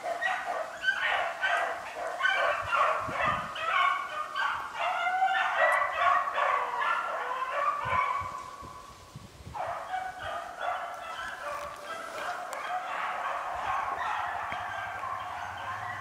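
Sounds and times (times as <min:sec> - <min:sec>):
pack of dogs baying: 0:00.0 - 0:08.7, 0:09.6 - 0:16.0.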